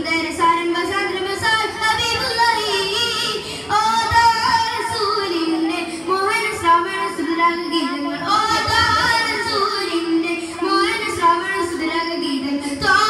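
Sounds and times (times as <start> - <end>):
boys singing into microphones: 0.0 - 13.0.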